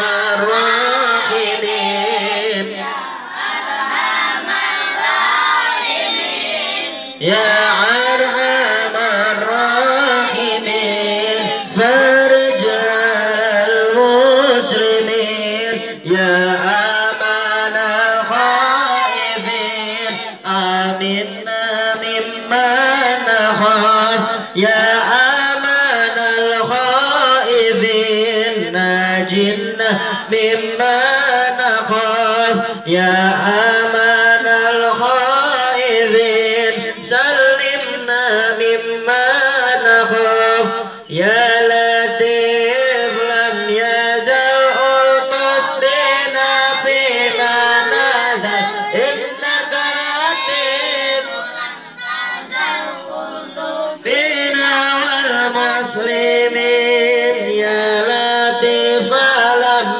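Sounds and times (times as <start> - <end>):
boy singing a devotional chant: 0.0 - 59.9.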